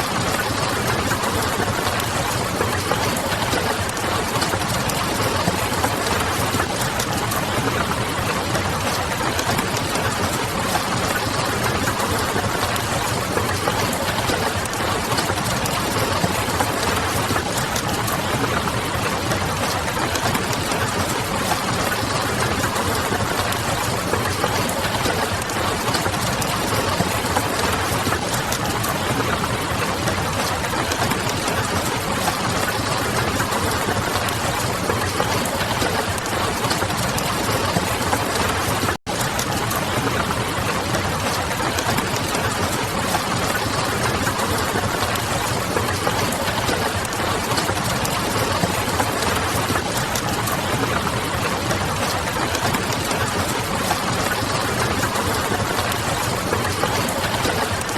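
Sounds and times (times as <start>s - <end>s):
rain pattering: 0.0s - 57.9s.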